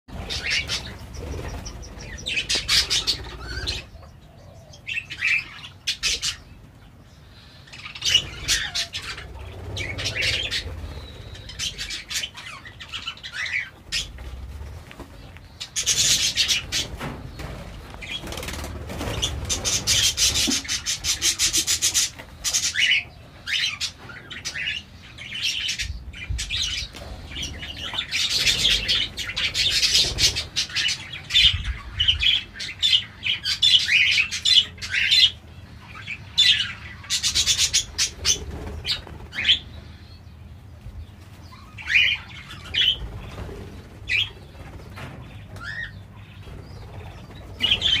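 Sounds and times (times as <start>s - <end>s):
budgerigars chattering: 0.2s - 6.5s, 7.4s - 14.2s, 15.6s - 40.2s, 41.0s - 44.6s, 45.3s - 48.0s.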